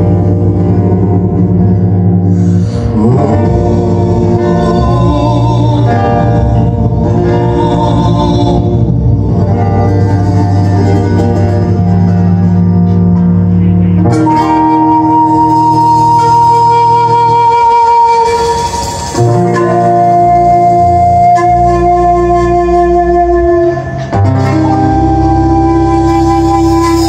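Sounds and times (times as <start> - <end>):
held flute-like note: 0.0 - 27.0
live band playing: 0.0 - 27.0.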